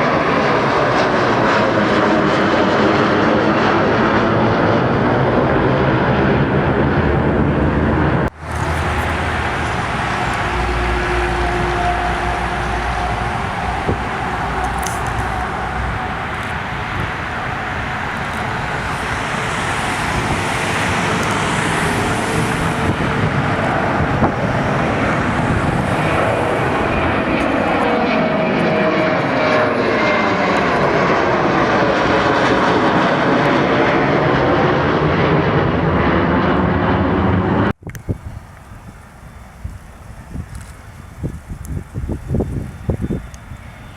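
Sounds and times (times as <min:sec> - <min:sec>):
jet airliner passing close by: 0:00.0 - 0:43.9.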